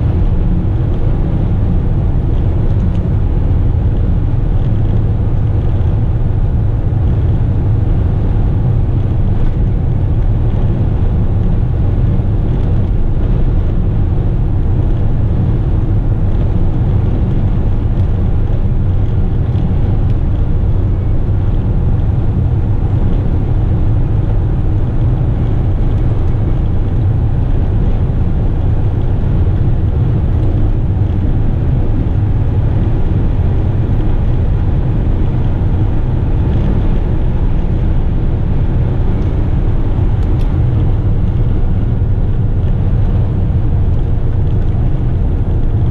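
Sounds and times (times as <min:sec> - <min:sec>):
truck engine and road drone: 0:00.0 - 0:45.9.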